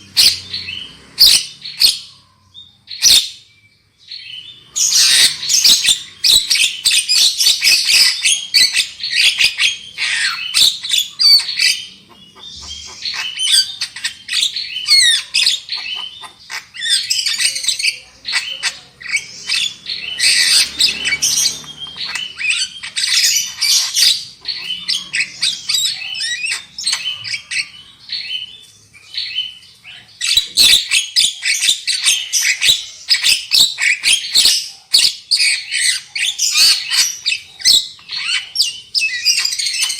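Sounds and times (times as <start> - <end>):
myna bird chattering: 4.1 - 39.9.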